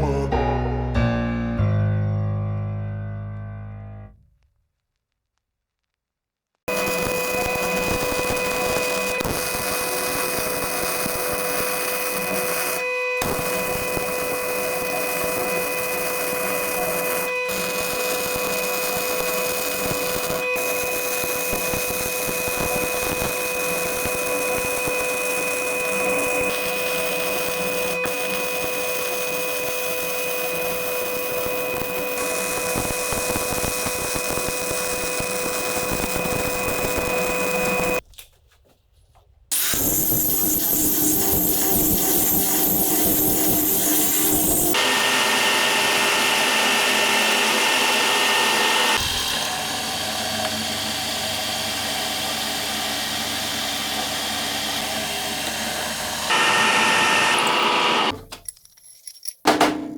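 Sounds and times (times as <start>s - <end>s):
power tool motor whining: 6.7s - 38.0s, 39.5s - 58.2s.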